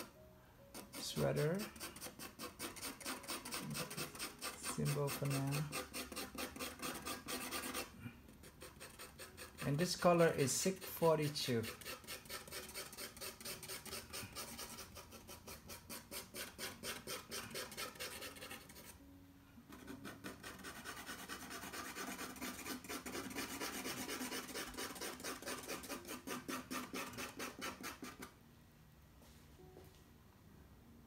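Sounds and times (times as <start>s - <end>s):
pencil stroking on paper: 0.7s - 19.0s, 19.7s - 28.3s.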